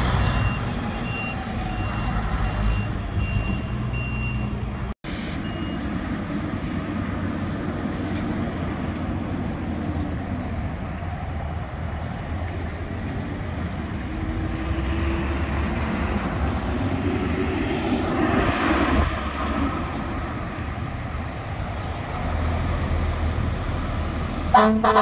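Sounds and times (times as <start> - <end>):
pickup truck passing close: 0.0 - 25.0
vehicles driving slowly past: 0.0 - 25.0.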